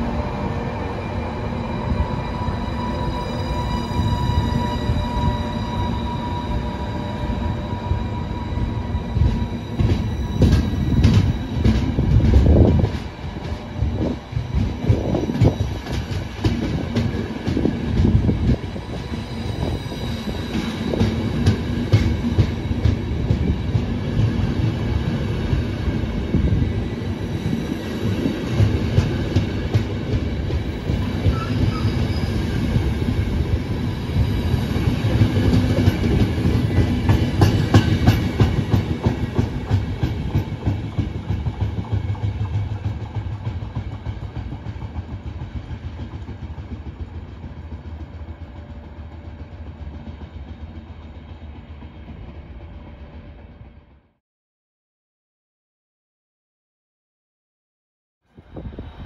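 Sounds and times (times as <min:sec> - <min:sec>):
train wheels rumbling on rail: 0:00.0 - 0:54.2.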